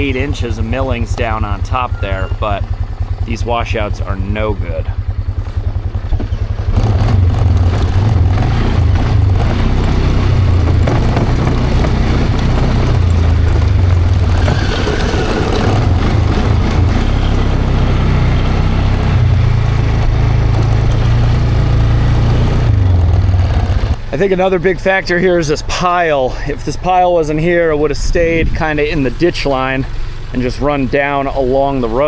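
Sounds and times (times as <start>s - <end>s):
engine running with low rumble: 0.0s - 32.0s.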